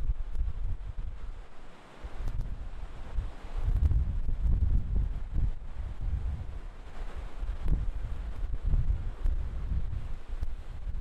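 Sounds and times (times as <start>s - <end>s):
faint hiss: 0.0s - 11.0s
wind buffeting microphone: 0.0s - 11.0s.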